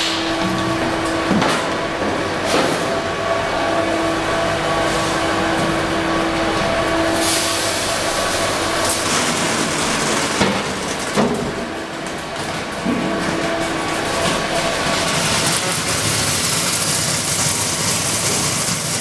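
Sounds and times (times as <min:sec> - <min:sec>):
sorting machine humming and hissing: 0:00.0 - 0:19.0.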